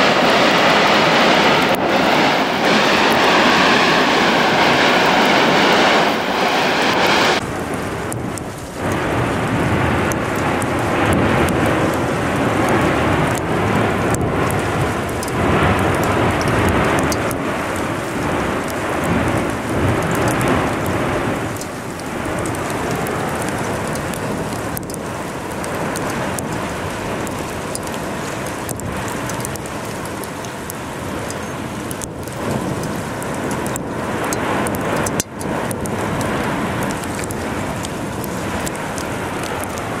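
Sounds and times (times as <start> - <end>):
lava flow crackling and rushing: 0.0 - 40.0.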